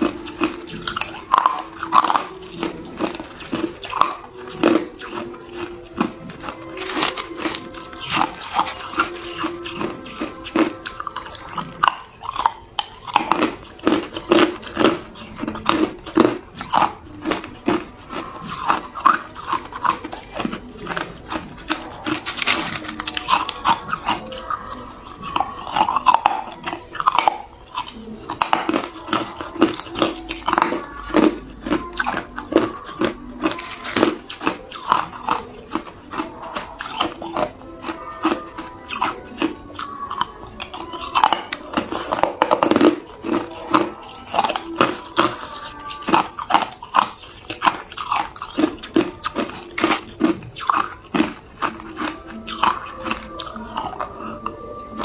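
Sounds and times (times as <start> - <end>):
ice cubes crunching when chewed: 0.0 - 55.0.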